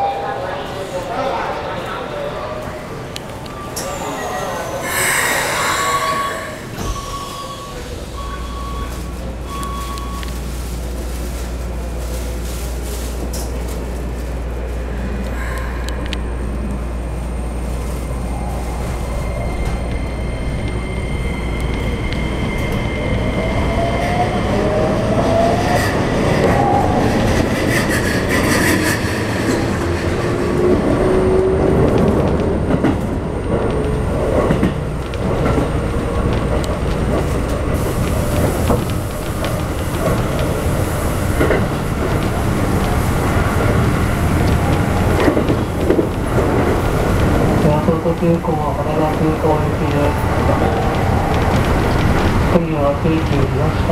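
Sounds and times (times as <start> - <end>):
wheel-on-rail noise: 4.8 - 53.9.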